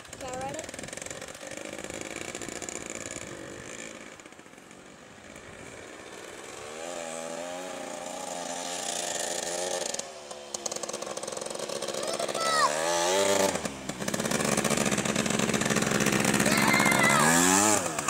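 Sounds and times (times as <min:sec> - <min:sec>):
mini bike engine revving: 0:00.0 - 0:18.0.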